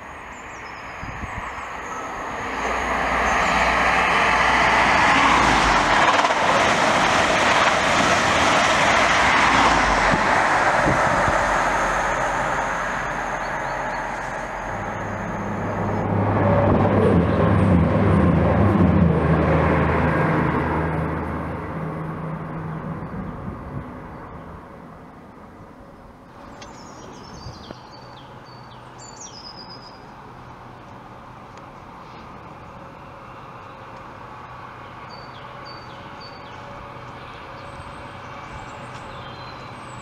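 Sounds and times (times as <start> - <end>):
low diesel engine drone: 0.0 - 40.0
train wheel and rail noise: 0.0 - 40.0.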